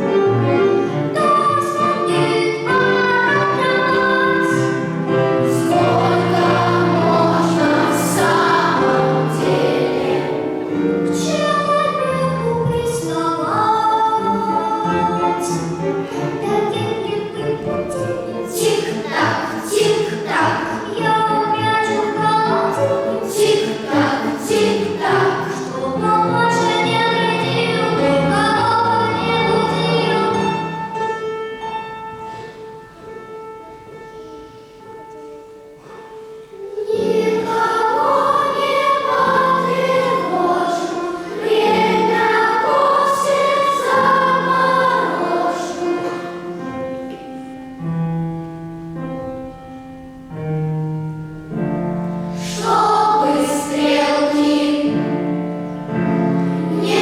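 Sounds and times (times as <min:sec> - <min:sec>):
choir singing: 0:00.0 - 0:31.1, 0:36.4 - 0:47.9, 0:52.1 - 0:57.0
instrumental accompaniment: 0:00.0 - 0:57.0.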